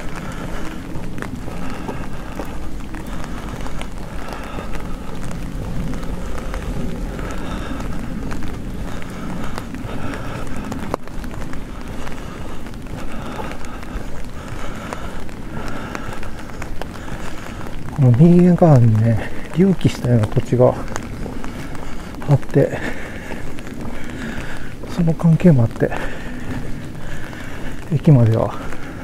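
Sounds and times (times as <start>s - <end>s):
footsteps outdoors: 0.0s - 29.0s
wind rumble on microphone: 0.0s - 29.0s.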